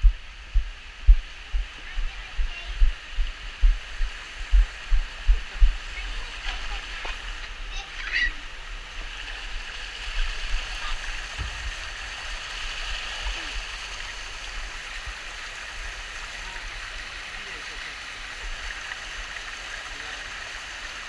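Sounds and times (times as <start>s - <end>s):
water rushing down slide tube: 3.8s - 21.0s.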